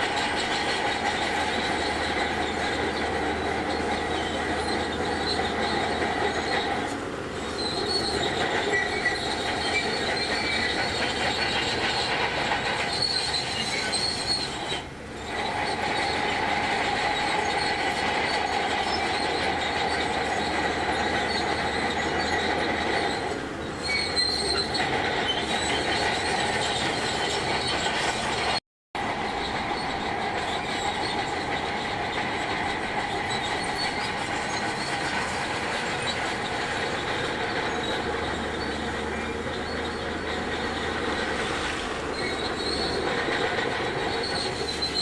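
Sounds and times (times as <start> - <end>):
high squealing tones: 0.0 - 28.6, 29.2 - 45.0
bulldozer engine and tracks grinding: 0.0 - 45.0.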